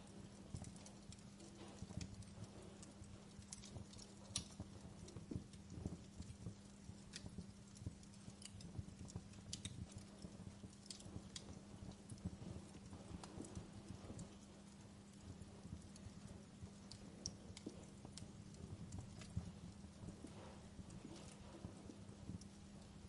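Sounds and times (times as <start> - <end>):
low steady hum: 0.0 - 23.0
wood fire crackling: 0.0 - 23.0.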